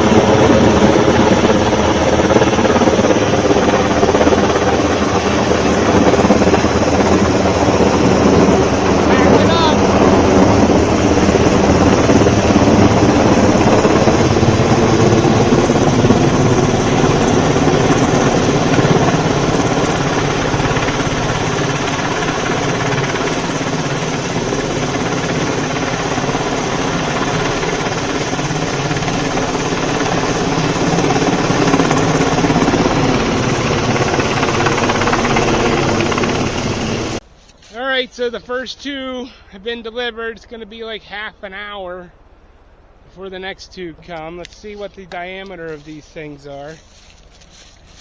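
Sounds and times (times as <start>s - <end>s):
helicopter rotor and turbine: 0.0s - 37.4s, 42.1s - 48.0s.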